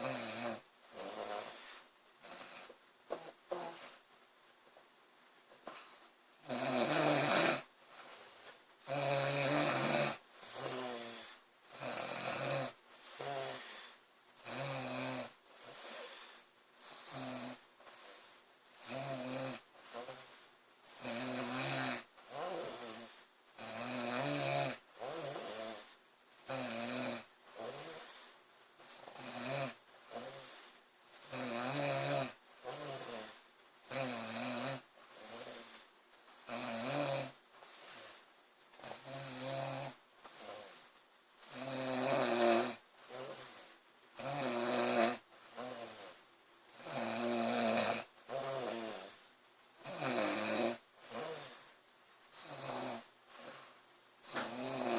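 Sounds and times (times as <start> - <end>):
woman snoring loudly: 0.0 - 3.9, 6.4 - 7.7, 8.9 - 35.8, 36.4 - 38.2, 38.8 - 40.8, 41.4 - 51.7, 52.4 - 53.5, 54.2 - 54.9.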